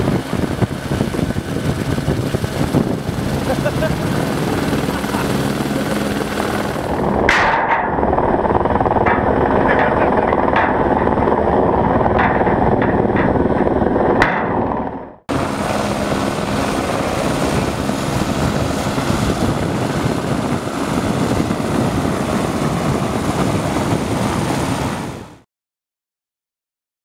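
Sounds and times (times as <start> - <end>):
helicopter hovering: 0.0 - 25.4.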